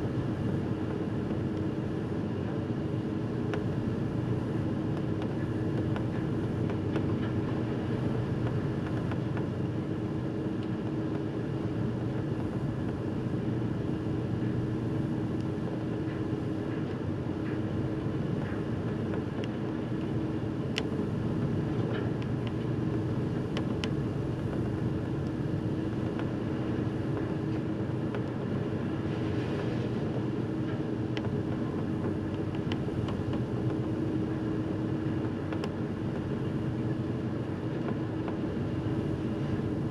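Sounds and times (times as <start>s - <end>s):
ferry engine rumble and hum: 0.0s - 39.9s
wind: 0.0s - 39.9s.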